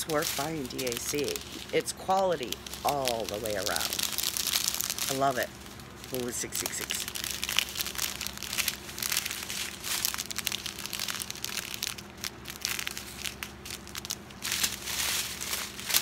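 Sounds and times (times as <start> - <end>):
plastic packets crinkling: 0.0 - 16.0.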